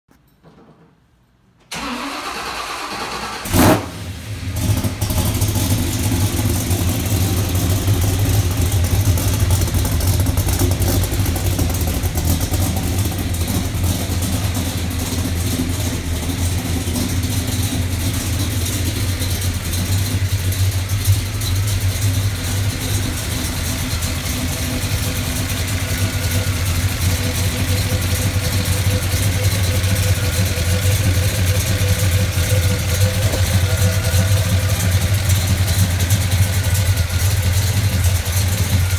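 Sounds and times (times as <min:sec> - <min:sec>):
car engine catching: 0:01.7 - 0:38.9
car engine cranking: 0:01.7 - 0:38.9
car engine idling: 0:01.7 - 0:38.9.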